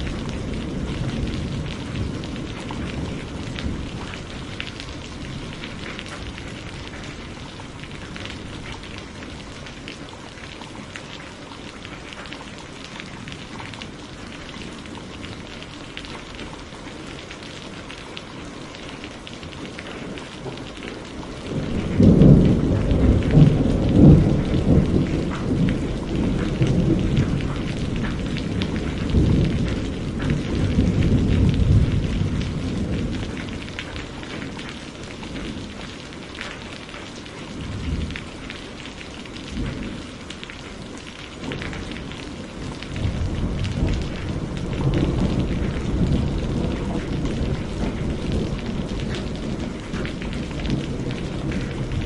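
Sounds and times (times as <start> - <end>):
thunder rumbling: 0.0 - 10.1, 19.4 - 36.8, 37.4 - 52.0
steady rain pattering: 0.0 - 52.0.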